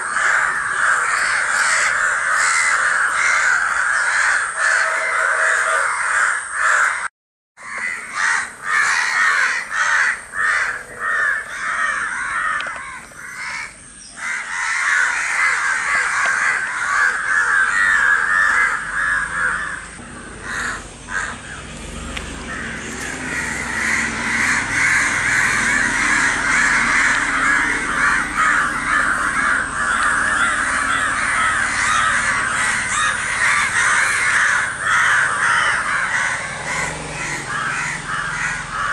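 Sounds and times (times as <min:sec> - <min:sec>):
crows cawing: 0:00.0 - 0:38.9.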